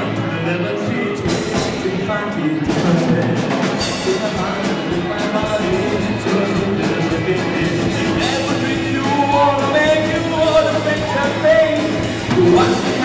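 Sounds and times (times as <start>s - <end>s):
electric guitars: 0.0s - 13.0s
man singing: 0.0s - 13.0s
drum kit beat: 0.9s - 13.0s.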